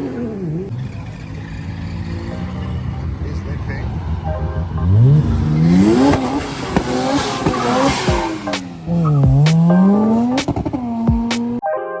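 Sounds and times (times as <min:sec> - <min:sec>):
car engine revving hard: 0:00.0 - 0:11.6.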